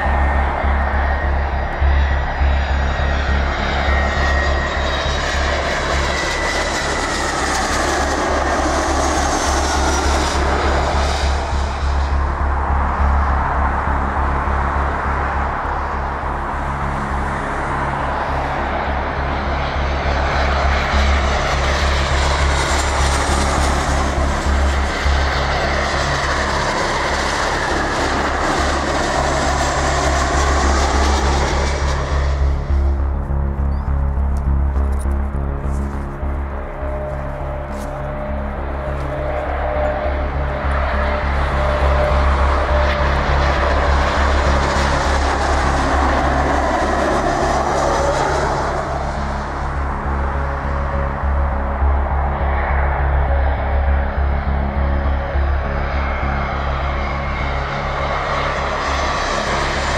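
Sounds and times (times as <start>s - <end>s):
jet roar with fan whine: 0.0s - 59.9s.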